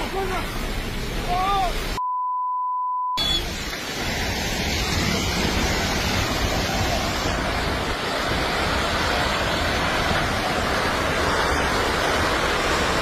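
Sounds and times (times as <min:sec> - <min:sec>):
landslide rushing roar: 0:00.0 - 0:02.0, 0:03.2 - 0:13.0.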